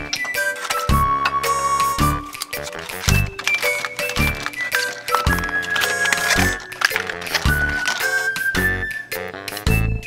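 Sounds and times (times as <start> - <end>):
beat-driven background music: 0.0 - 9.9.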